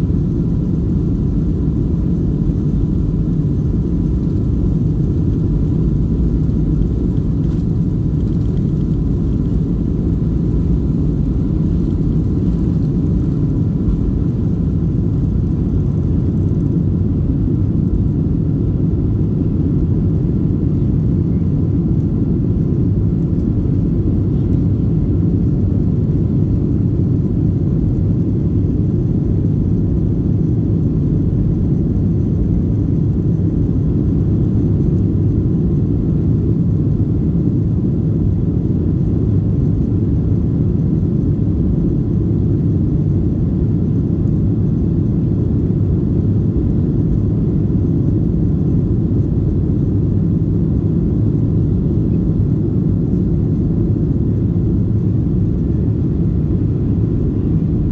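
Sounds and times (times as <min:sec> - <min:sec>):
airliner cabin engine drone: 0:00.0 - 0:57.9.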